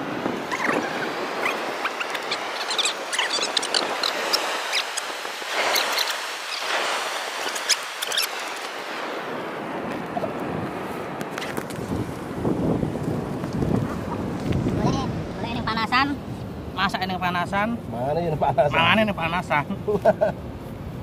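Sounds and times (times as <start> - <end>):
sea surf: 0.0 - 21.0
wind: 0.0 - 21.0.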